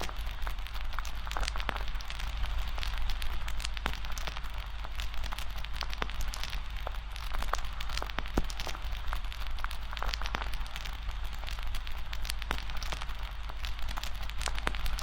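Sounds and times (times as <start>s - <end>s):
bonfire crackling and popping: 0.0s - 15.0s
fire hiss: 0.0s - 15.0s.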